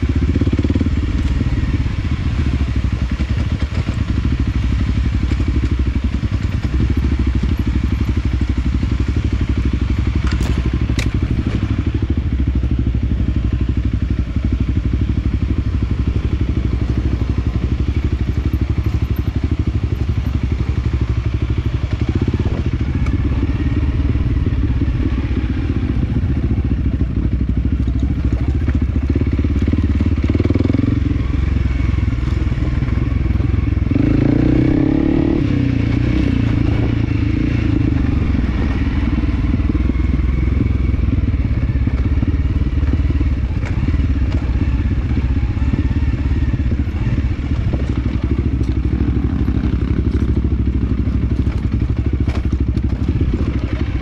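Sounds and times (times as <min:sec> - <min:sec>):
motorcycle thuds and rattles: 0:00.0 - 0:54.0
small motorcycle engine running: 0:00.0 - 0:54.0.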